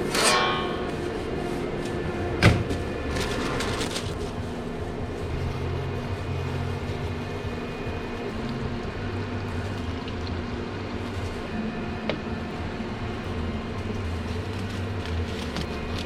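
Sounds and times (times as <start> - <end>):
kitchen equipment humming: 0.0 - 16.0.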